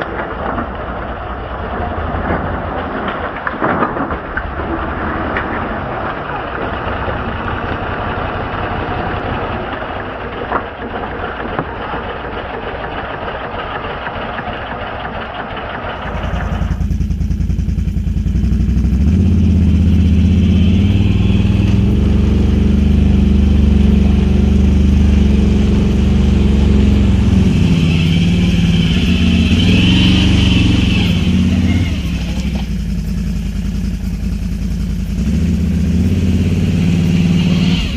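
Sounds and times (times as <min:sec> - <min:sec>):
atv engine exhaust: 0:04.2 - 0:37.9.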